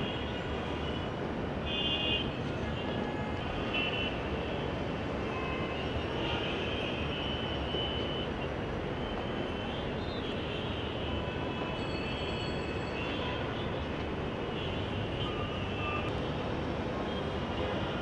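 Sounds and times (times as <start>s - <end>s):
city traffic: 0.0s - 18.0s.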